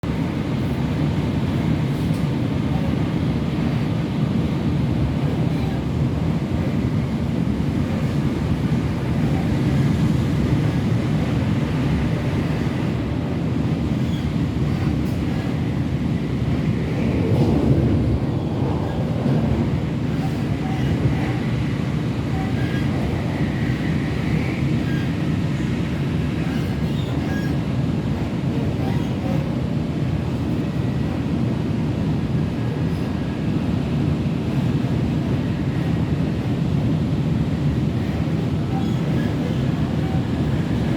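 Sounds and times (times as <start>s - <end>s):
train rumble inside carriage: 0.0s - 40.9s.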